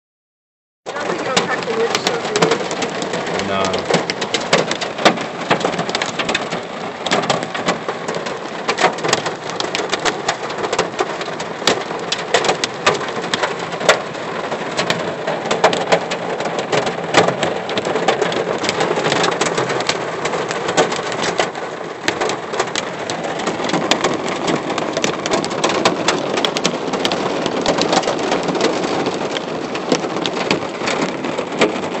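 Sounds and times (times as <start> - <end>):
hailstones clicking on car: 0.9 - 32.0
heavy rain on car roof: 0.9 - 32.0.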